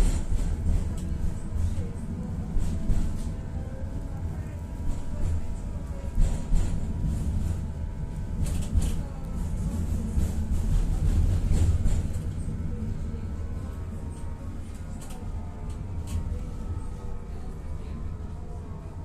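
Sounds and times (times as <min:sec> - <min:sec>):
tram wheels rumbling: 0:00.0 - 0:19.0.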